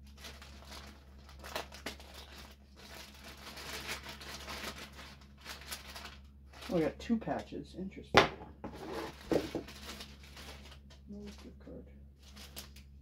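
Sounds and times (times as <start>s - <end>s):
packaging crinkling and tearing: 0.0s - 6.9s, 8.8s - 11.5s, 12.2s - 13.0s.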